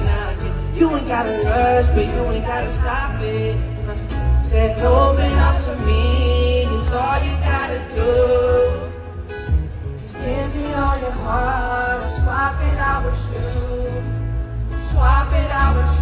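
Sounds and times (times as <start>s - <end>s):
man singing into microphone: 0.0s - 9.2s, 10.0s - 16.0s
backing band with heavy bass: 0.0s - 16.0s.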